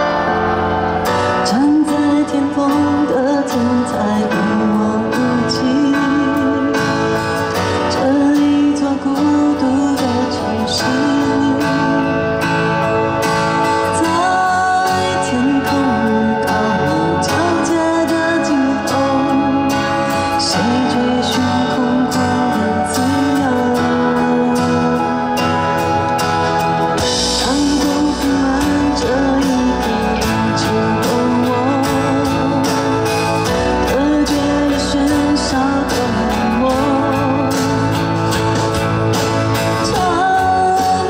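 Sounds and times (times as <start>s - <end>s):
band with guitar: 0.0s - 41.0s
woman singing: 1.3s - 12.4s, 13.8s - 25.9s, 27.0s - 38.2s, 39.7s - 41.0s.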